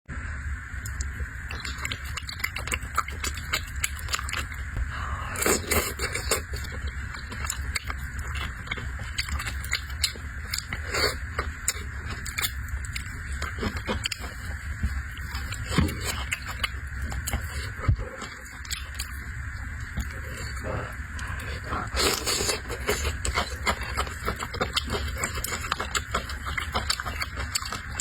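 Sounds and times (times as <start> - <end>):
steady low hum: 0.1 - 28.0
person chewing food: 0.8 - 28.0.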